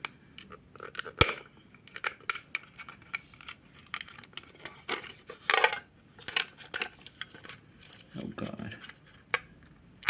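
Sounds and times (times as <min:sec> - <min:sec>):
packaging clicks and crinkles: 0:00.4 - 0:09.7.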